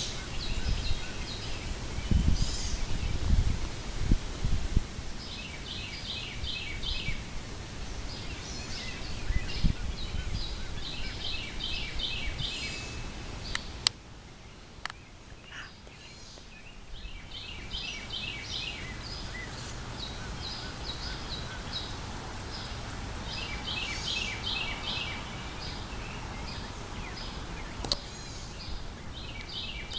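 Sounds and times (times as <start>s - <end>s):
songbird chirping: 0.0s - 3.6s, 4.2s - 29.9s.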